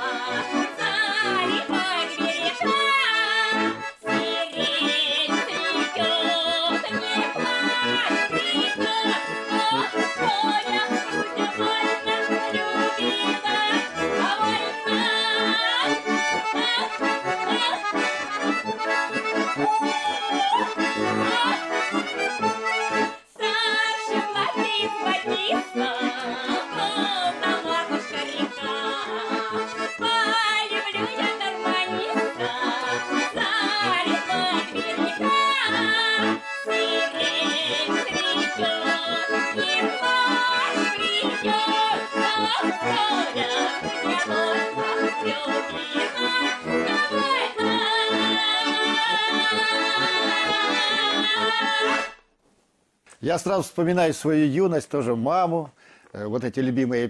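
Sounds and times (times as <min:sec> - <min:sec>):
woman singing: 0:00.0 - 0:22.3, 0:22.9 - 0:52.2
accordions playing folk music: 0:00.0 - 0:52.3, 0:53.2 - 0:57.0.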